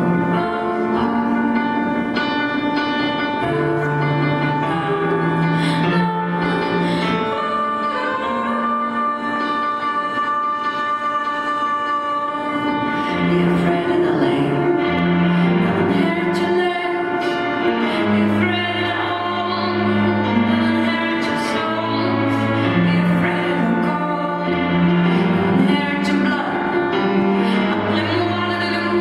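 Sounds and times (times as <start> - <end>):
held instrumental notes: 0.0 - 29.0
steady bass line: 0.0 - 29.0
woman singing: 0.0 - 29.0.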